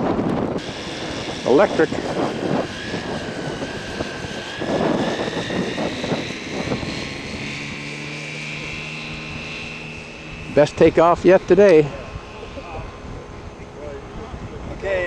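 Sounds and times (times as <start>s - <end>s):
model airplane motor whine: 0.0s - 15.0s.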